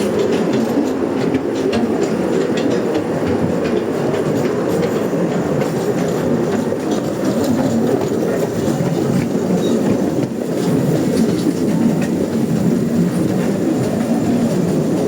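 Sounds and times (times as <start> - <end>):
clicking and rattling: 0.0 - 12.2.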